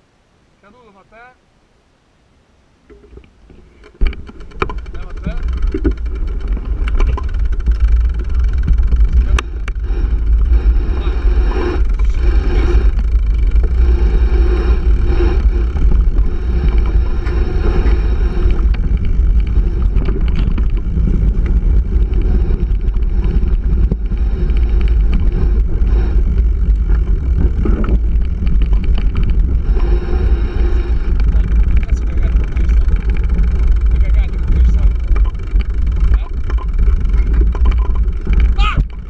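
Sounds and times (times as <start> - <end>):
bike clicking and rattling: 2.9 - 39.0
wind buffeting microphone: 4.0 - 39.0.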